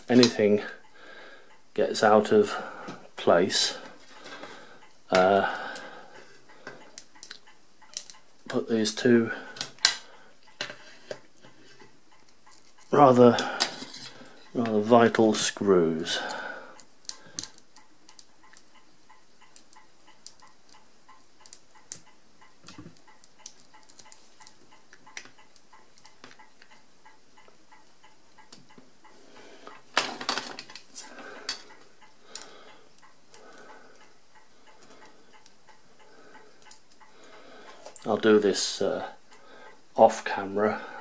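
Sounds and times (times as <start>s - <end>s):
faint ticking: 0.0s - 41.0s.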